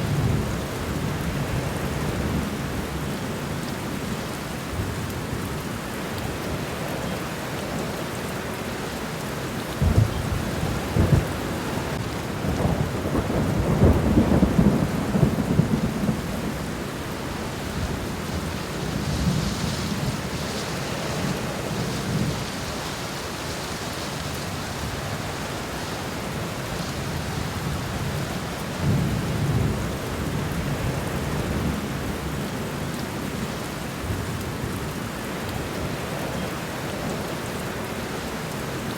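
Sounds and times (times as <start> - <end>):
rain falling on ground: 0.0 - 38.9.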